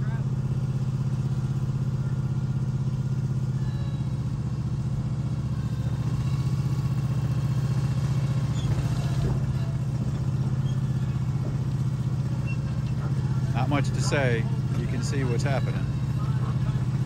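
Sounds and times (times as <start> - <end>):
small engine throbbing: 0.0 - 17.0.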